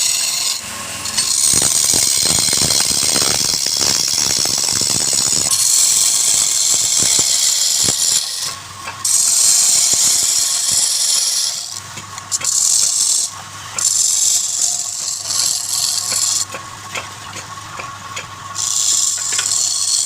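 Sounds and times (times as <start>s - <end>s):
wood lathe cutting tool shaving wood: 0.0s - 17.1s, 17.7s - 20.0s
faint motor hum: 0.0s - 20.0s.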